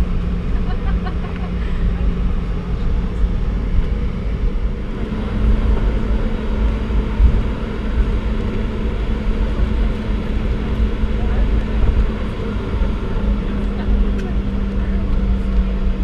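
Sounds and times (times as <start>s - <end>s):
jet engines droning in cabin: 0.0s - 16.0s
low rumble: 0.0s - 16.0s
steady hum: 0.0s - 16.0s.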